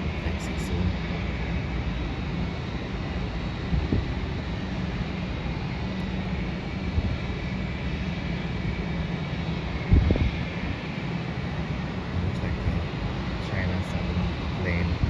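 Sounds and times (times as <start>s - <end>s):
faint high whine: 0.0s - 15.0s
jet engines rumbling: 0.0s - 15.0s.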